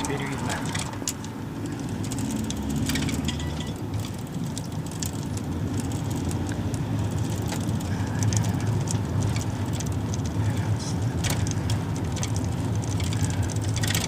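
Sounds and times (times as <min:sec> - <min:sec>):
minibus engine and road drone: 0:00.0 - 0:14.0
rattles and clicks: 0:00.0 - 0:14.0.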